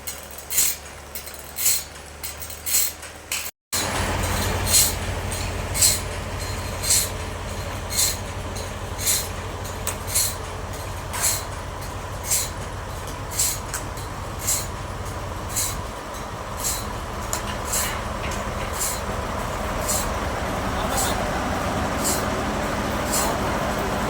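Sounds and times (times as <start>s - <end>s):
band saw humming: 0.0s - 24.0s.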